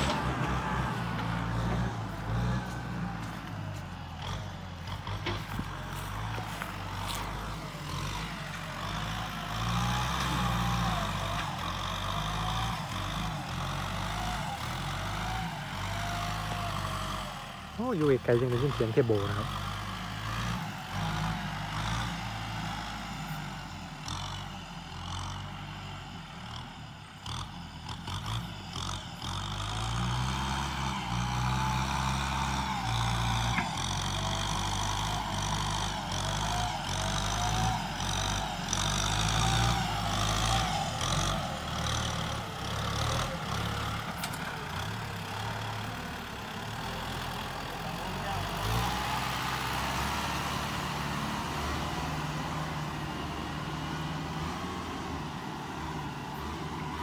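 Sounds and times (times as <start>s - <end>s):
tractor diesel engine working: 0.0s - 57.0s.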